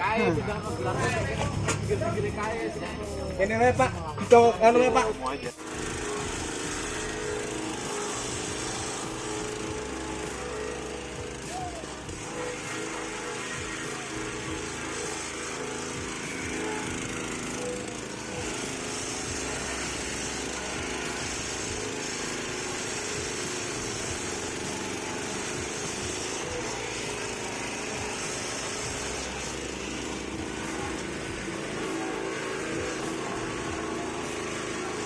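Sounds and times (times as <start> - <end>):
petrol engine chopper running: 0.0 - 35.0.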